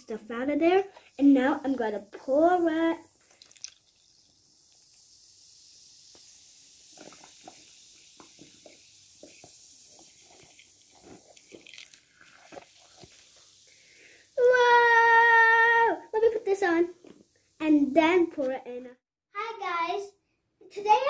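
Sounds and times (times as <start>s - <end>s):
liquid fizzing: 0.1s - 18.0s.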